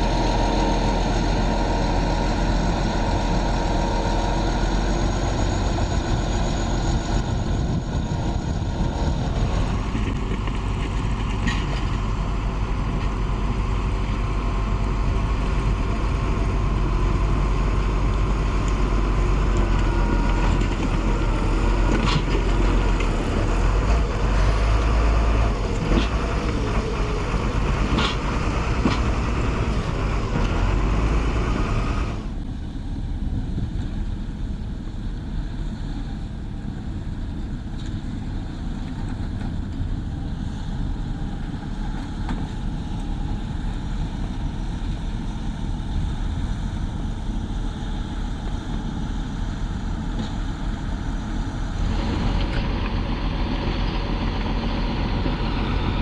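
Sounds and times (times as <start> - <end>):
diesel machinery running: 0.0 - 56.0.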